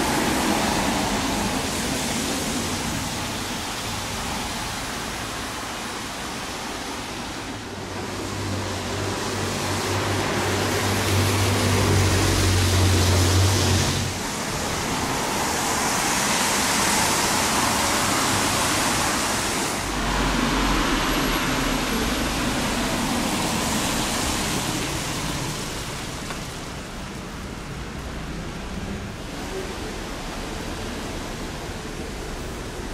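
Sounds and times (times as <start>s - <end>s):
cars passing on wet road: 0.0s - 32.9s.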